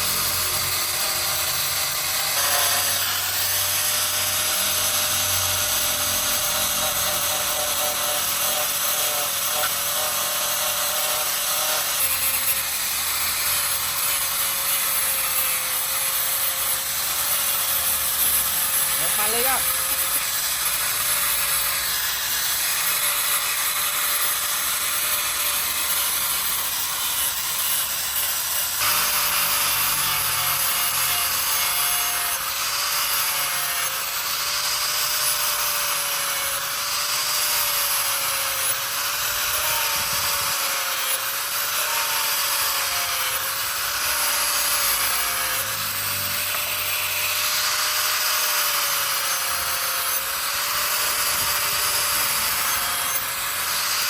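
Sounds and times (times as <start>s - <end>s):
electric sander running: 0.0s - 54.0s.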